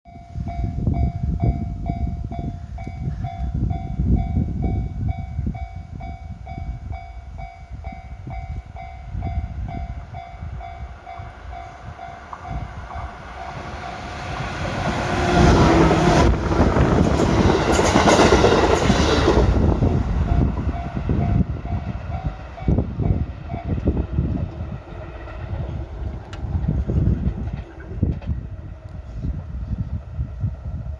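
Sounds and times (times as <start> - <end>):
electric train passing: 0.2 - 30.9.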